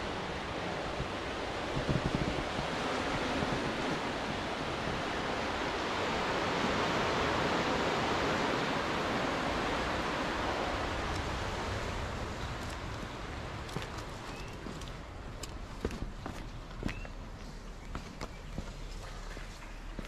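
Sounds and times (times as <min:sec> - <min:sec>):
ocean waves washing: 0:00.0 - 0:17.7.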